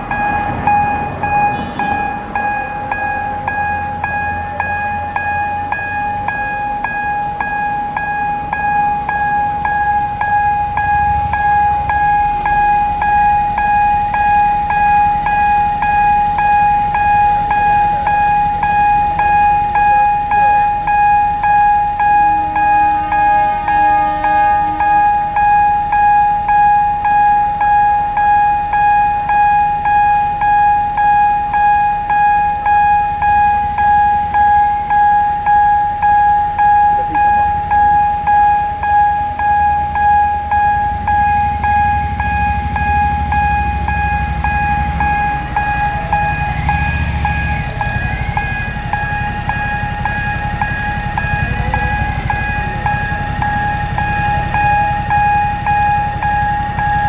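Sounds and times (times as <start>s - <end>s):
level crossing warning bell: 0.0s - 57.0s
train low rumble: 0.0s - 57.0s.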